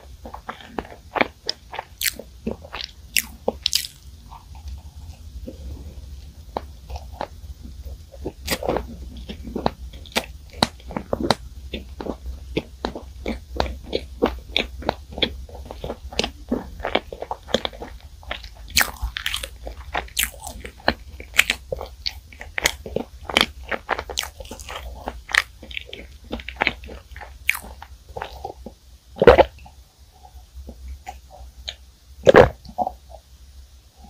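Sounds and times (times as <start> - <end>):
chewing crunchy pastry: 0.0 - 33.2.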